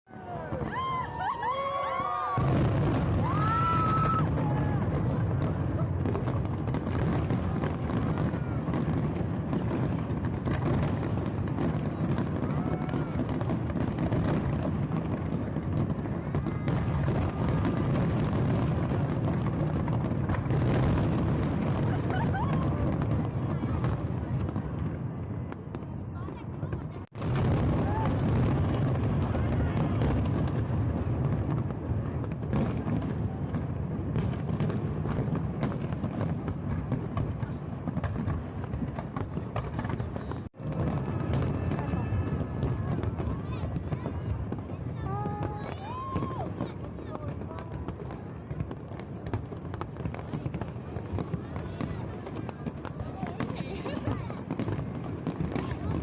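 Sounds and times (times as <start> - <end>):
fireworks booming: 0.1 - 56.0
fireworks cracking and crackling: 0.1 - 56.0.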